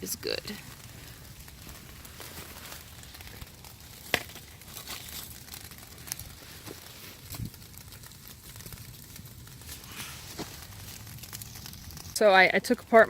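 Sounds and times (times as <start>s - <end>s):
rustling and crinkling: 0.0s - 13.0s.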